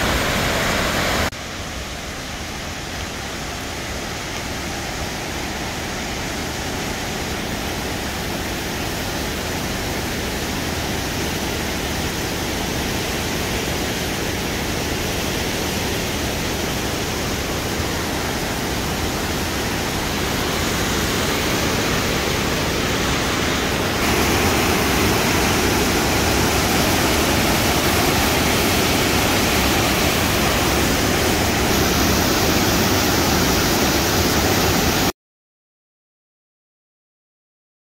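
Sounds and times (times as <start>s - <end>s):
river water rushing over rocks: 0.0s - 35.1s.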